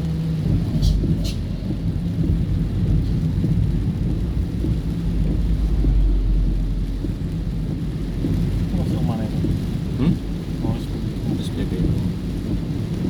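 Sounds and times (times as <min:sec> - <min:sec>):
car driving through rain rumble: 0:00.0 - 0:13.0.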